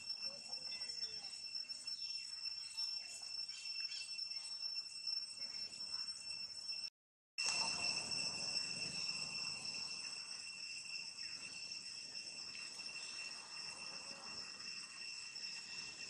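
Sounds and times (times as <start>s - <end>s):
insect chorus droning: 0.0s - 16.0s.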